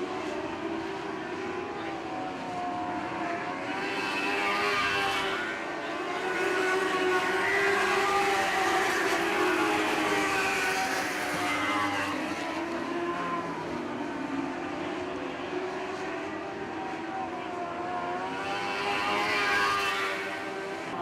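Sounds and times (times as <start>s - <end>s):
racing car engines at high revs: 0.0s - 21.0s.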